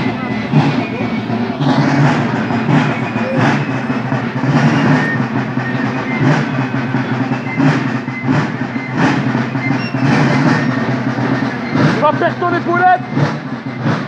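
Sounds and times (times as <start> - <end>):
distant marching drums: 0.0 - 14.0.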